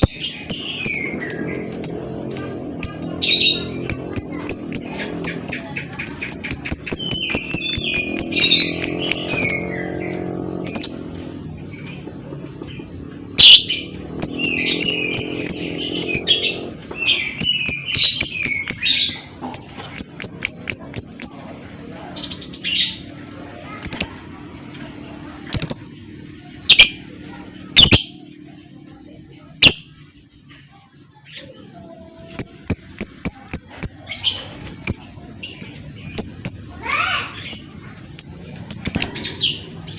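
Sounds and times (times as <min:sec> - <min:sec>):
lovebird chirping and warbling: 0:00.0 - 0:24.6, 0:25.3 - 0:28.3, 0:29.4 - 0:30.0, 0:31.1 - 0:39.9.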